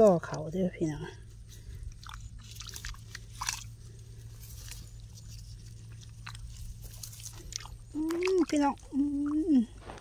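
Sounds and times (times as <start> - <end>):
straw rustling in muddy water: 0.0 - 10.0.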